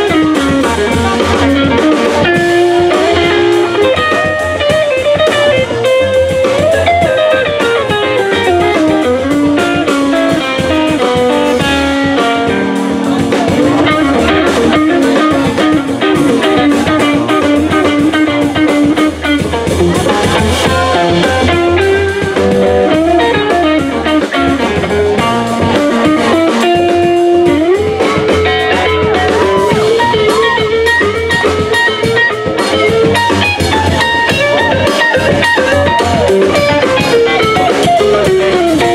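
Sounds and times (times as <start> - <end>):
drum kit: 0.0 - 38.9
electric guitar solo: 0.0 - 38.9
upright bass: 0.0 - 38.9.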